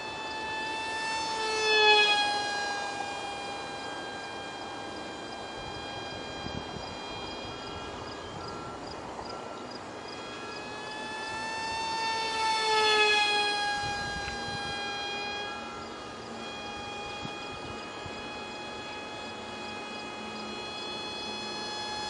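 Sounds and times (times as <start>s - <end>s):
model plane motor whine: 0.0s - 22.0s.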